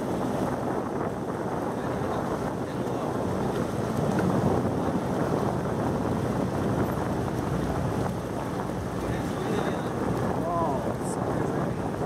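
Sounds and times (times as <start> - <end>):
boat engine running: 0.0 - 12.0
wind noise on microphone: 0.0 - 12.0.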